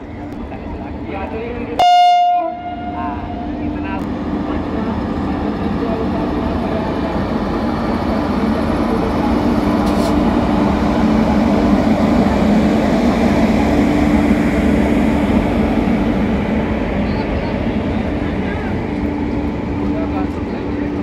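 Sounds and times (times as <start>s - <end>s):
locomotive hum: 0.0s - 21.0s
train wheels rumbling on rails: 0.0s - 21.0s.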